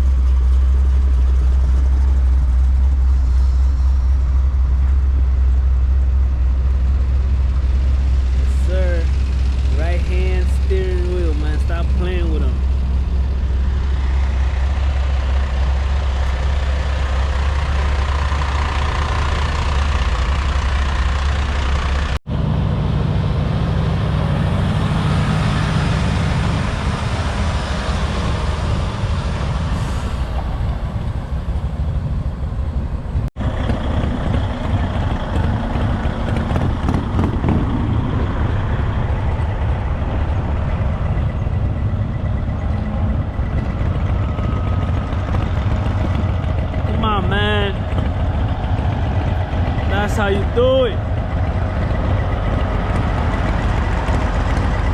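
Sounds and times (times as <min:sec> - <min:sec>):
diesel truck engines rumbling: 0:00.0 - 0:54.9.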